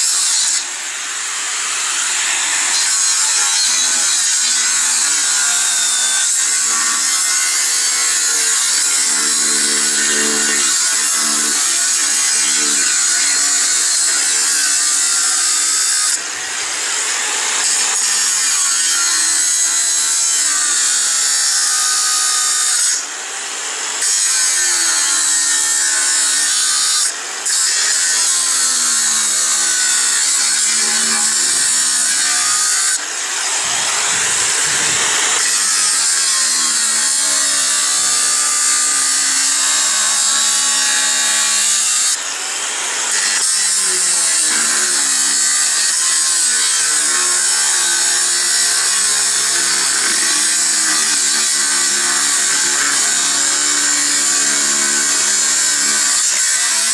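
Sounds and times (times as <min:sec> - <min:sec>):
angle grinder cutting steel: 0:00.0 - 0:56.9.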